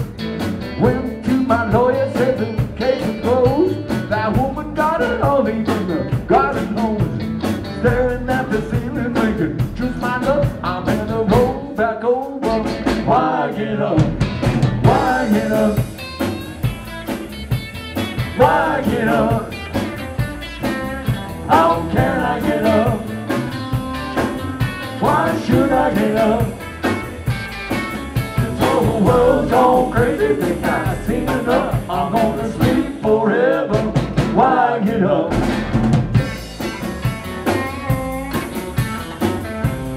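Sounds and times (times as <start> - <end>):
electric guitar: 0.0 - 34.4, 35.1 - 39.9
drum kit: 0.0 - 39.9
live rock and roll band: 0.0 - 39.9
upright bass: 0.0 - 39.9.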